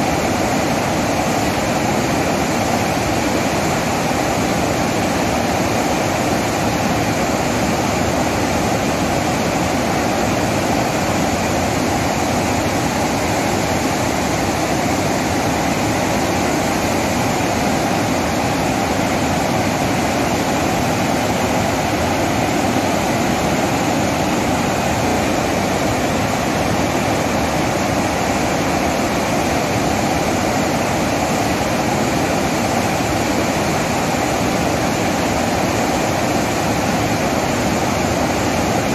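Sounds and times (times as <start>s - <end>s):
floodwater rushing through spillway: 0.0s - 38.9s.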